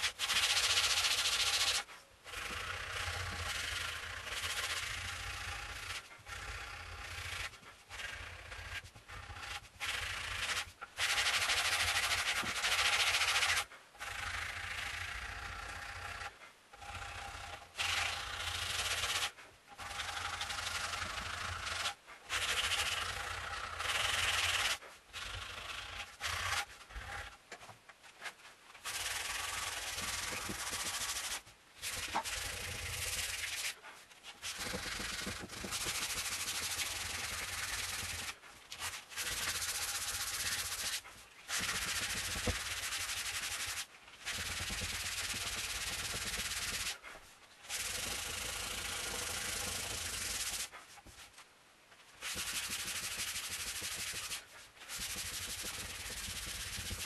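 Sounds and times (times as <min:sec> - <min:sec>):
sandpaper rubbing on wood: 0:00.0 - 0:27.4, 0:28.2 - 0:51.4, 0:52.2 - 0:57.0.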